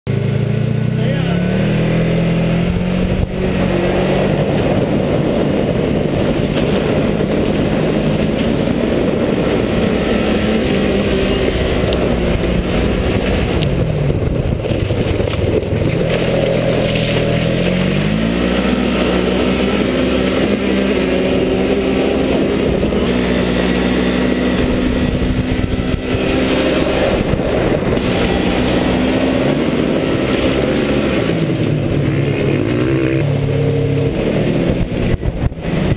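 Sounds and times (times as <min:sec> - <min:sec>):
constant rush of noise: 0:00.1 - 0:35.9
vehicle engine running hard: 0:00.1 - 0:35.9.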